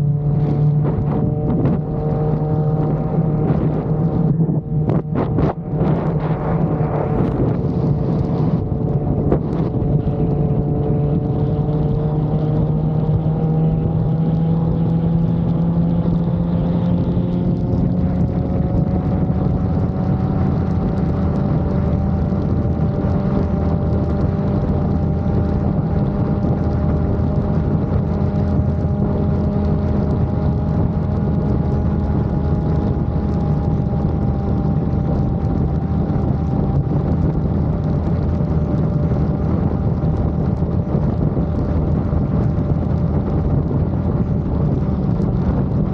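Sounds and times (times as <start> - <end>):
motorcycle engine cruising: 0.0 - 45.9
wind noise on microphone: 0.0 - 45.9.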